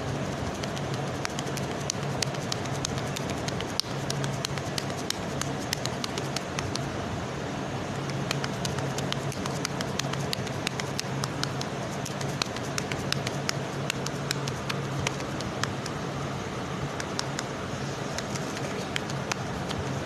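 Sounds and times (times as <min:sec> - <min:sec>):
hands patting meat mixture: 0:00.2 - 0:06.9, 0:08.0 - 0:16.0, 0:17.0 - 0:17.5, 0:18.1 - 0:19.8.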